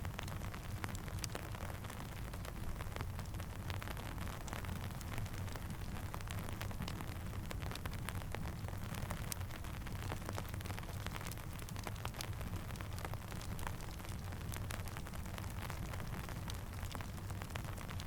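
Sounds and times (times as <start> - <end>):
campfire crackling: 0.0 - 18.0
steady rain hissing: 0.0 - 18.0.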